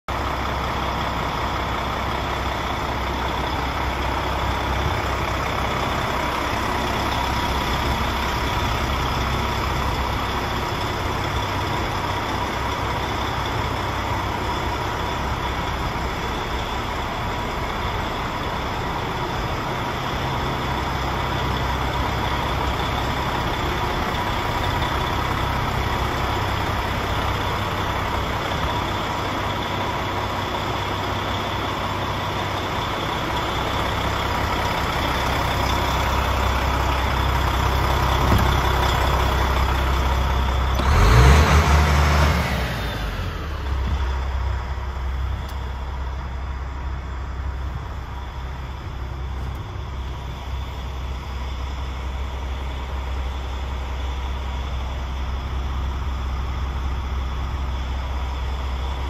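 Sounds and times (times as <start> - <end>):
diesel truck engine idling: 0.1 - 59.0.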